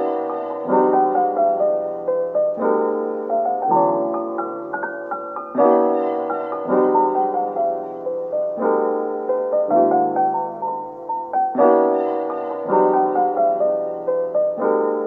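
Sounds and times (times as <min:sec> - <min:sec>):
mellow lo-fi piano music: 0:00.0 - 0:15.0.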